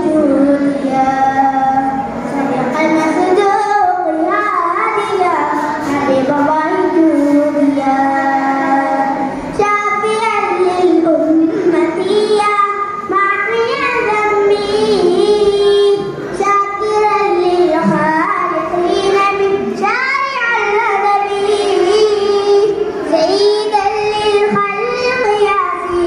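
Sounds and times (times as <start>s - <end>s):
boy singing: 0.0s - 26.0s.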